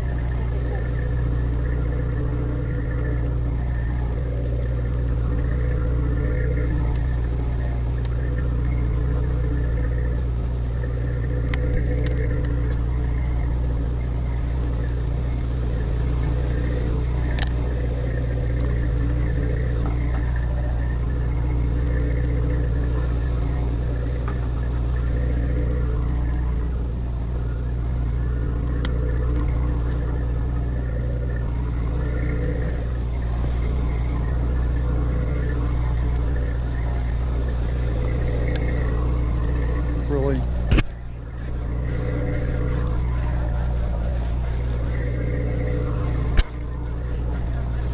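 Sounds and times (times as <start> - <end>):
boat engine humming: 0.0 - 47.9.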